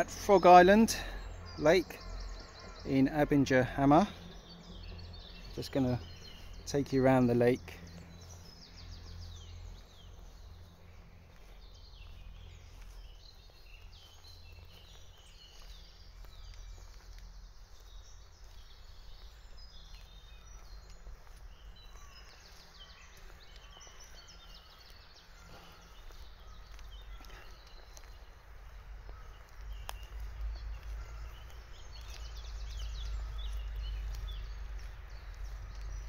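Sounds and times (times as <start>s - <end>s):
birds singing: 0.0s - 36.0s.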